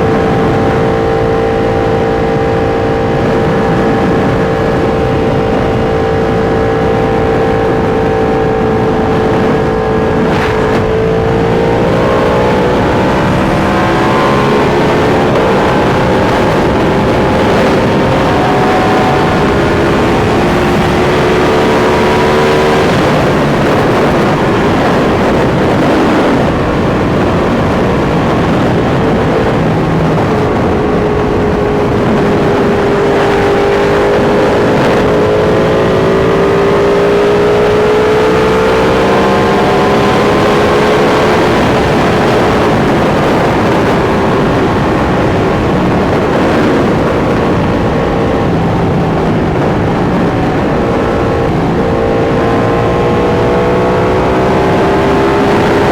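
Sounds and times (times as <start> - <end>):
heavy rush of noise: 0.0 - 55.9
motorcycle engines running: 0.0 - 55.9.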